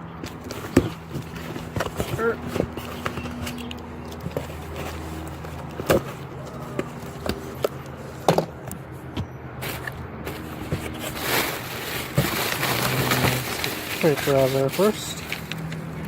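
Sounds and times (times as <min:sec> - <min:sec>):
cardboard box knocks and clicks: 0:00.2 - 0:08.5, 0:09.1 - 0:14.2
cardboard rustling: 0:00.2 - 0:08.5, 0:09.6 - 0:16.0.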